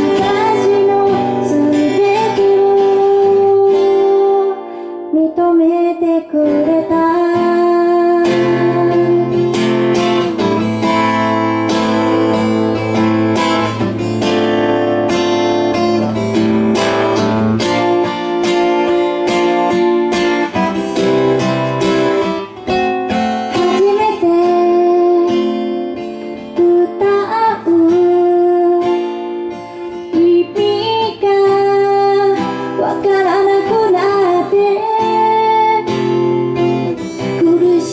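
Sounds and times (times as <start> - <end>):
woman singing: 0.0 - 22.5, 23.1 - 37.9
acoustic guitar strumming: 0.0 - 37.9.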